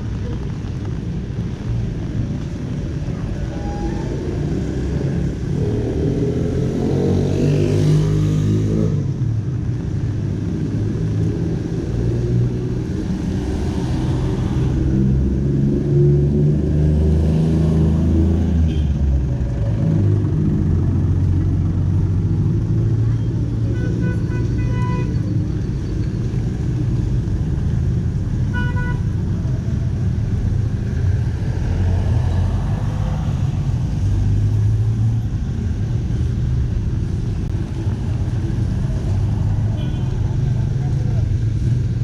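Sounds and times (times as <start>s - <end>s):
traffic engines humming: 0.0s - 42.0s.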